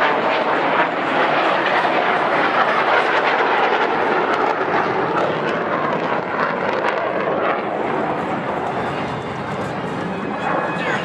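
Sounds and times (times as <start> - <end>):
airplane flying overhead: 0.0 - 11.0.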